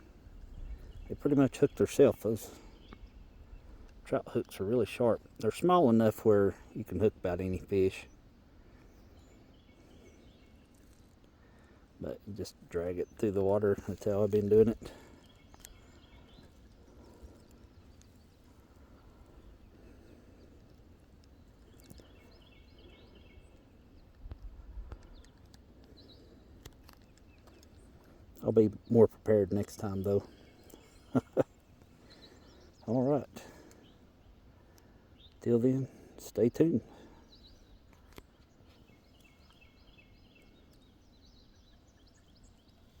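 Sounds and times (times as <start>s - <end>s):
faint pond-side ambience: 0.0s - 43.0s
small bird singing: 0.0s - 43.0s.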